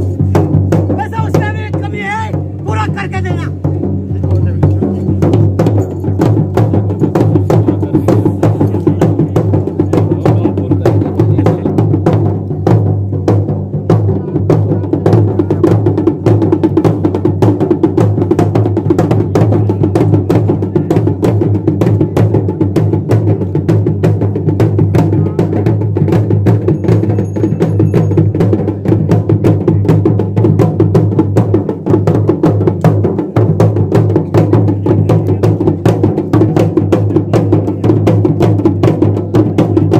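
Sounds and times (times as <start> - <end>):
drums beaten fast: 0.0 - 39.9.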